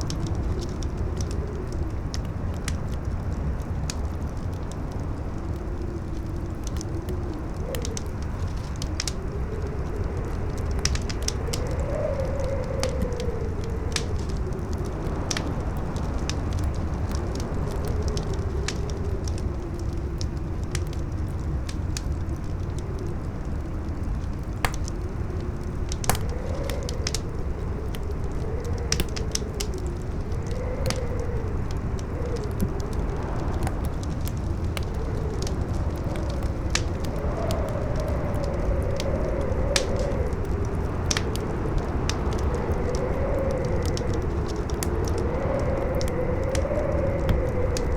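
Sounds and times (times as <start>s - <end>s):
campfire crackling and popping: 0.0s - 47.9s
low rumble of gusts: 0.0s - 47.9s
wind howling: 0.0s - 47.9s.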